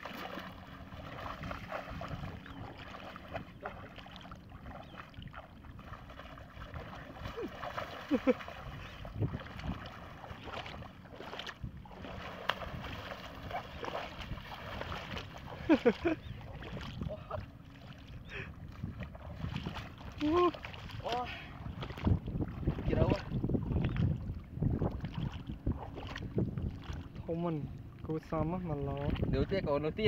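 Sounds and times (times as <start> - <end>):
shallow water splashing: 0.0 - 29.5
legs wading through water: 0.0 - 29.6.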